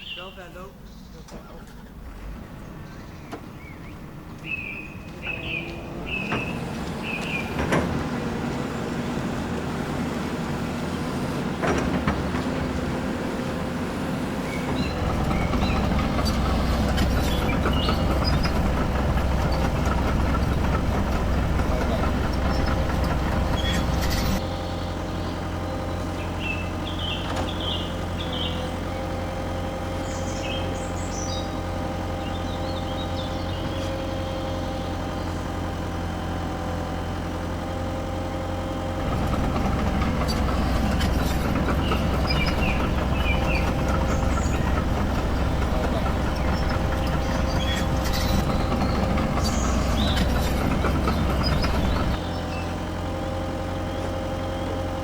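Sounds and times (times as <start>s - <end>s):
simulated diesel engine drone: 1.6s - 55.0s.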